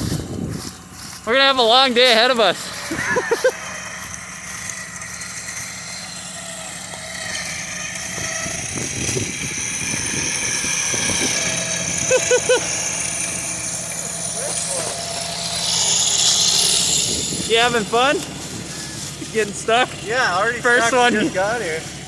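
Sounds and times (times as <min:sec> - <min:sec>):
high whine: 0:00.0 - 0:22.0
truck engine running: 0:00.0 - 0:22.0.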